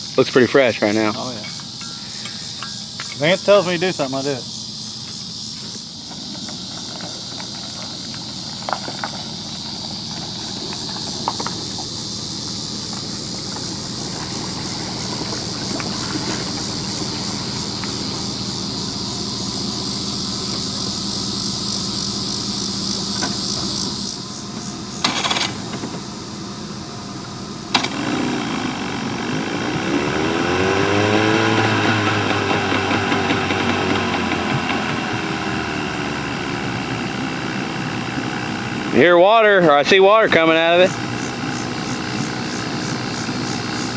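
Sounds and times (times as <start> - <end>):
crickets droning: 0.0 - 43.9
outboard boat motor revving: 6.2 - 26.0, 27.7 - 43.9.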